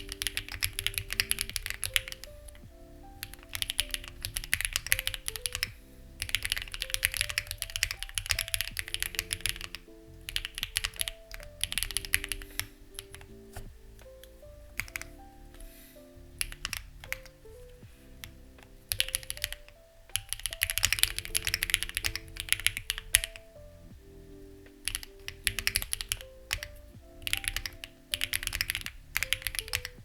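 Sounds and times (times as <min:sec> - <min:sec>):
mechanical keyboard typing: 0:00.0 - 0:02.6, 0:03.2 - 0:15.2, 0:16.4 - 0:17.5, 0:18.2 - 0:23.5, 0:24.7 - 0:30.0
soft background music: 0:00.0 - 0:30.0.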